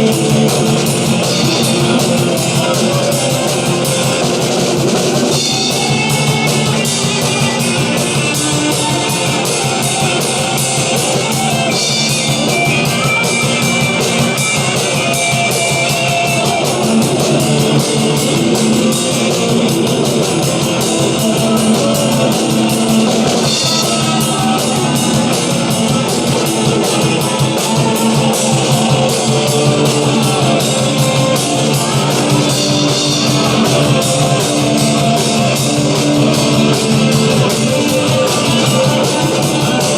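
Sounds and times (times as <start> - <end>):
drum kit: 0.0 - 39.9
electric guitar: 0.0 - 39.9
rock band playing: 0.0 - 39.9.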